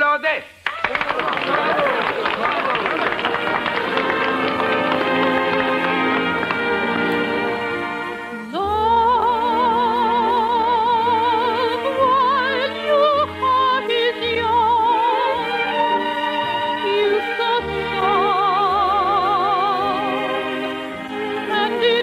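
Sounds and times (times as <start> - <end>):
orchestral accompaniment: 1.6 - 22.0
soprano singing: 3.0 - 22.0.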